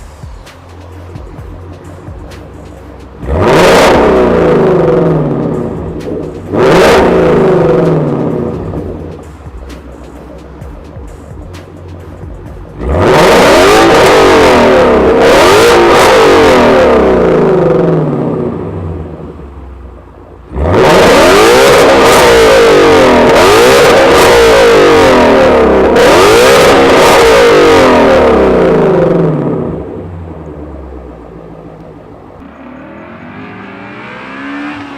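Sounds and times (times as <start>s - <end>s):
car exhaust under hard acceleration: 0.0s - 34.9s.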